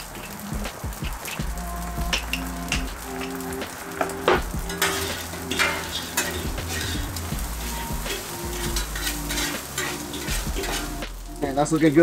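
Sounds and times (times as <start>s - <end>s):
metal utensils scraping griddle: 0.0s - 12.0s
rice sizzling on a griddle: 0.0s - 12.0s.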